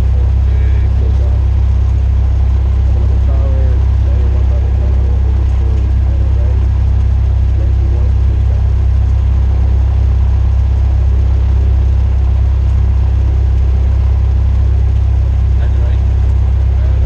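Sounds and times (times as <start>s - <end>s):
propeller aircraft engine drone: 0.0s - 17.0s.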